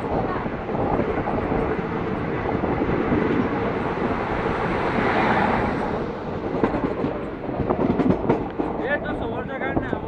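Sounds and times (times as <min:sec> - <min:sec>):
trains rushing and rumbling: 0:00.0 - 0:10.0
wind buffeting microphone: 0:00.0 - 0:10.0.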